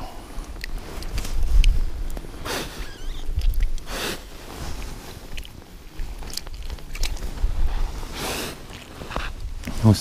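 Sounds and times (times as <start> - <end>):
light crunching: 0.3 - 10.0.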